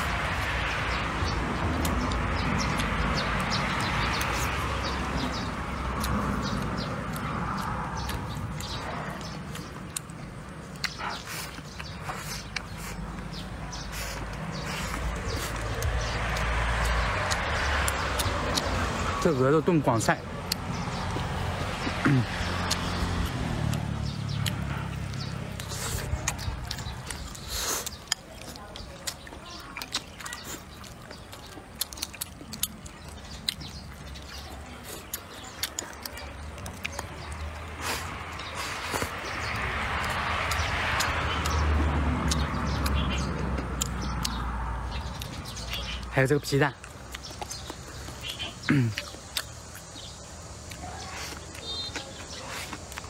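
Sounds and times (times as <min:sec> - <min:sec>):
person chewing: 0:00.0 - 0:19.3, 0:19.9 - 0:46.1, 0:46.8 - 0:53.0.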